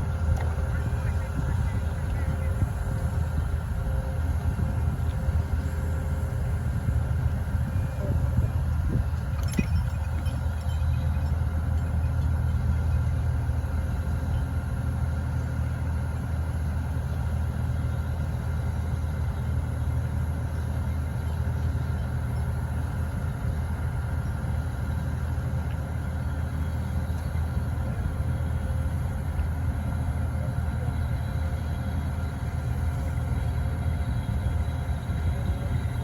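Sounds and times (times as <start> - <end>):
engine idling: 0.0 - 36.0.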